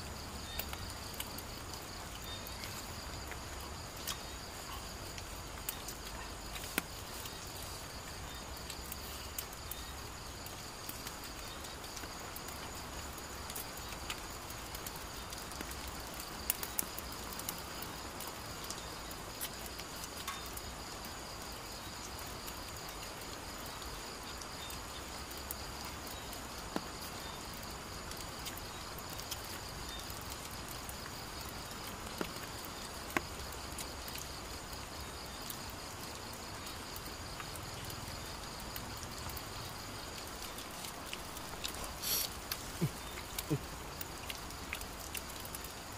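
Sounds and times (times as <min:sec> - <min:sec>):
insects trilling: 0:00.0 - 0:45.9
low hiss: 0:00.0 - 0:45.9.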